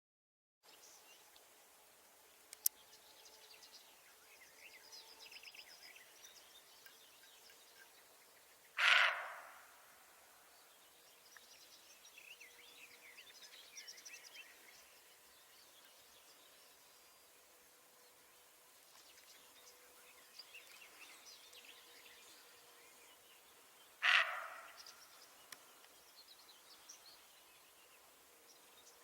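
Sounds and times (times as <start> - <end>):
small birds chirping: 2.3 - 9.8, 10.4 - 29.0.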